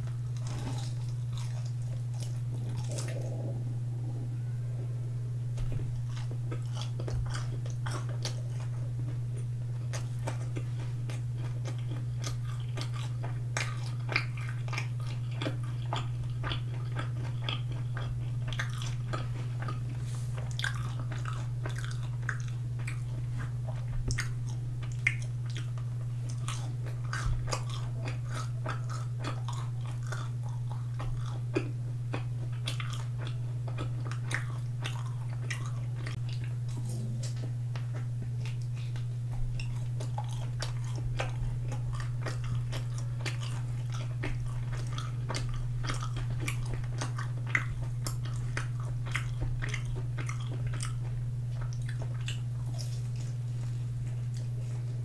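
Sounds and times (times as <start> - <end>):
person chewing and biting: 0.0 - 3.5, 5.6 - 55.0
steady low hum: 0.0 - 55.0.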